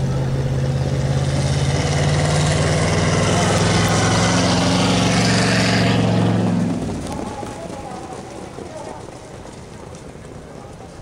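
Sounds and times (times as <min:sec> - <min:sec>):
car engine accelerating: 0:00.0 - 0:10.2.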